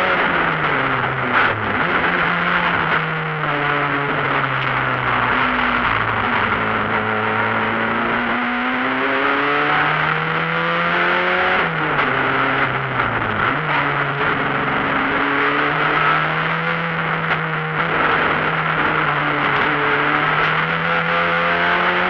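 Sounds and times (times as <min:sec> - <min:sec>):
rally car engine pulling hard: 0:00.0 - 0:22.0.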